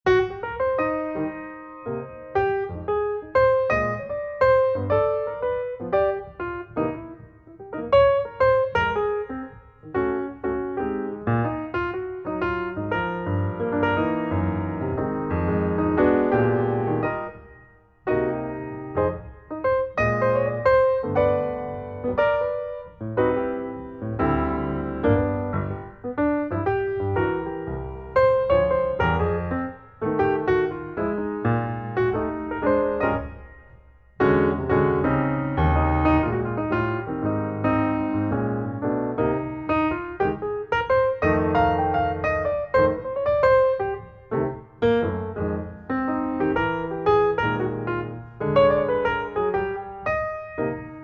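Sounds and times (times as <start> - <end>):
piano chords over bass line: 0.0 - 51.0.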